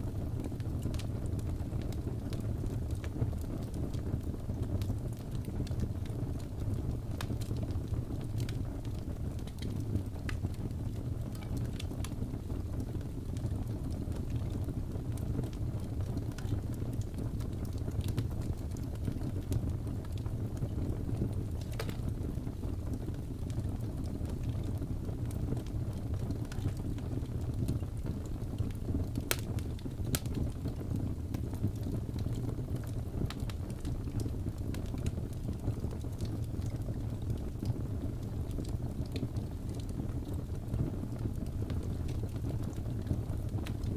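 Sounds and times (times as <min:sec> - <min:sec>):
fireplace fire crackling: 0:00.0 - 0:43.9.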